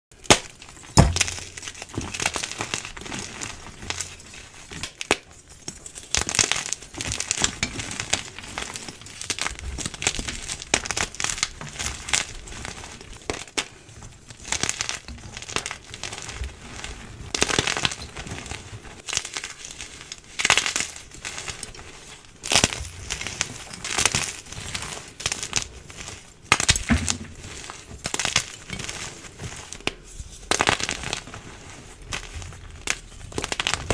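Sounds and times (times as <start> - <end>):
chalk crunching and crumbling: 0.2 - 33.9.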